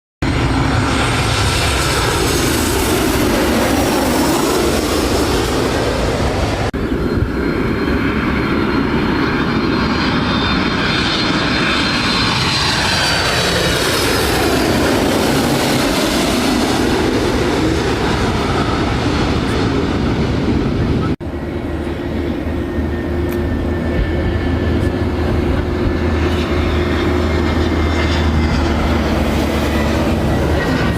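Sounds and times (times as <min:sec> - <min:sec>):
jet airliner passing: 0:00.2 - 0:30.9.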